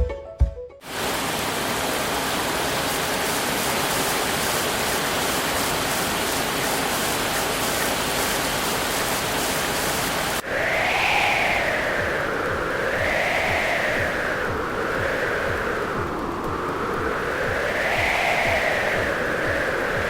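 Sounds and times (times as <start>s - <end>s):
water rushing: 0.8s - 20.0s.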